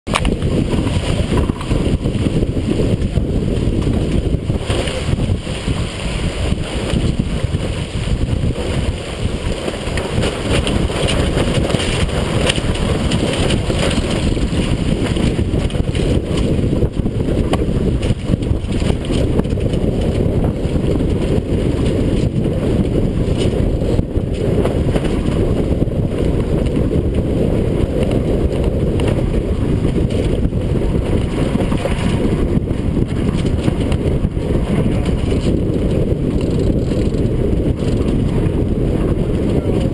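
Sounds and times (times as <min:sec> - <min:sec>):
wind buffeting microphone: 0:00.0 - 0:39.9
water splashing along hull: 0:00.1 - 0:39.9.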